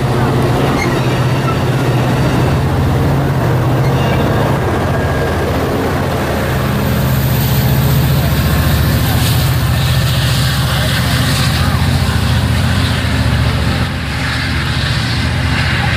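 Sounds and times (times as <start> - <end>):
diesel locomotive engine droning: 0.0 - 15.9.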